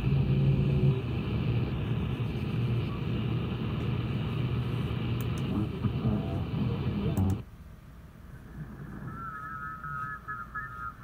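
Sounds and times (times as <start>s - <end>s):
radio static rumble: 0.0s - 7.5s, 8.2s - 11.0s
low hum: 0.0s - 11.0s.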